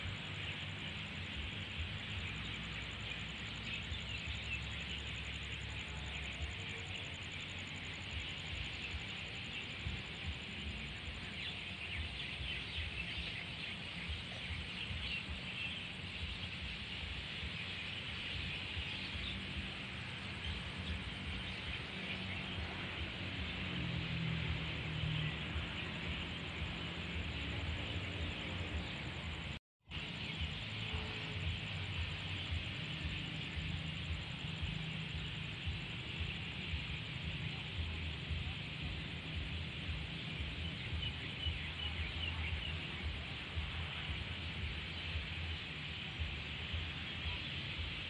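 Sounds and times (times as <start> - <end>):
insects chirping: 0.0 - 48.0.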